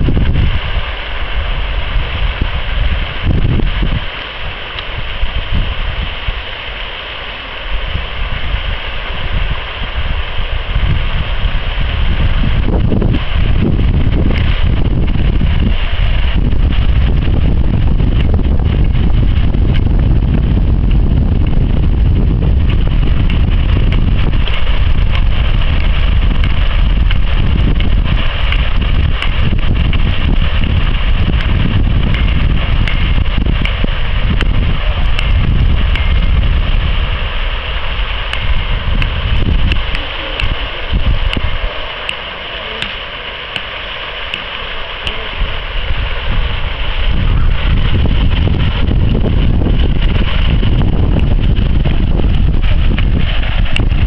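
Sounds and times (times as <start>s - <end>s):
steady rushing hiss: 0.0s - 54.0s
wind buffeting microphone: 0.0s - 54.0s.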